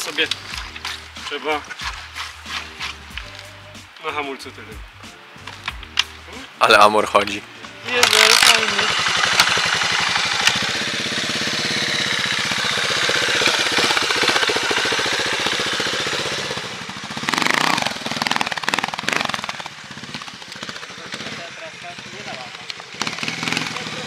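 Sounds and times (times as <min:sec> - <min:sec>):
motorcycle engine idling: 0:00.0 - 0:03.7, 0:07.8 - 0:24.0.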